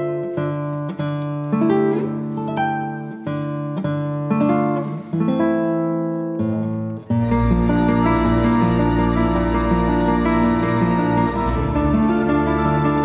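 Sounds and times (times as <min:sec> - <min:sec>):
plucked acoustic guitar melody: 0:00.0 - 0:13.0.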